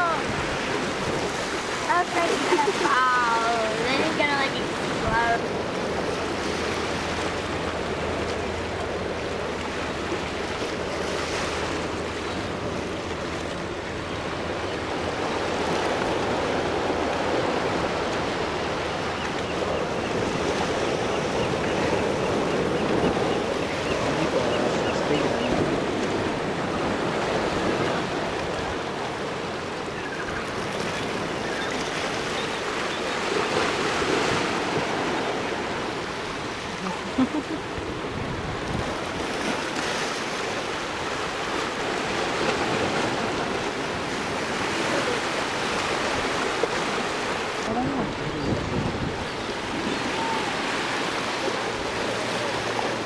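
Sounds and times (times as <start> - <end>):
rushing water: 0.0 - 53.0.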